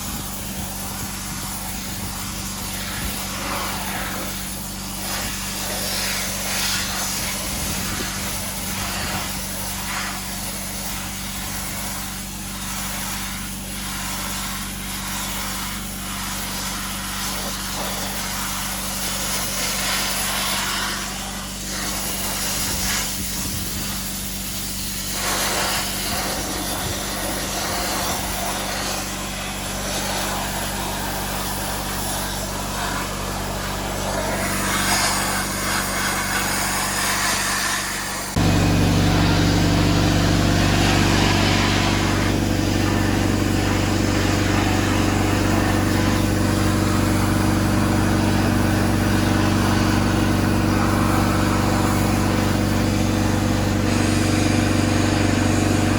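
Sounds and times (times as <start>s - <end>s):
motor running with hiss: 0.0s - 55.9s.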